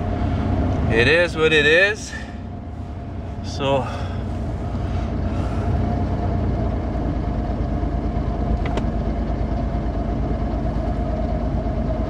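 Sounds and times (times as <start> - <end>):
road noise inside cab: 0.0 - 12.0
thin steady whine: 0.0 - 12.0
truck engine running rough: 0.0 - 12.0.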